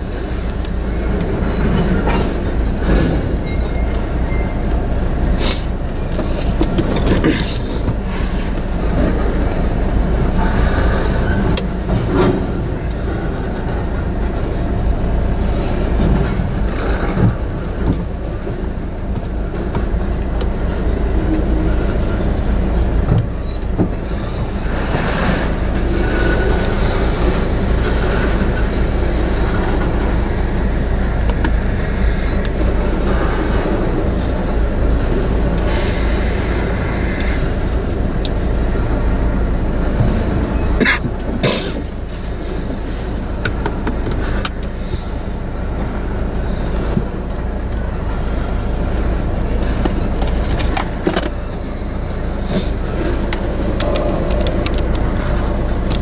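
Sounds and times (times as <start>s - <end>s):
train wheels rumbling on rail: 0.0s - 56.0s
wheels clunking over rail joints: 0.0s - 56.0s.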